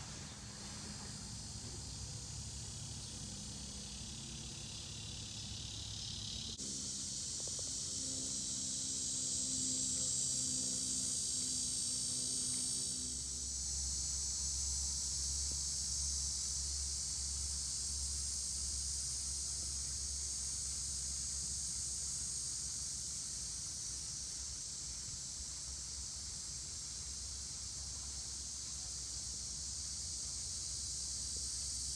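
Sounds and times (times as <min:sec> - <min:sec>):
high-pitched insect chorus: 0:00.0 - 0:31.9.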